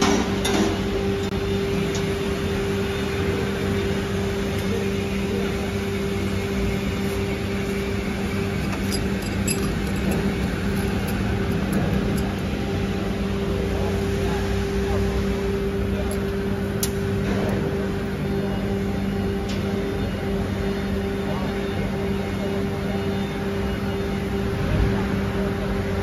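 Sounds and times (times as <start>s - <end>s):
workshop machinery humming: 0.0s - 26.0s.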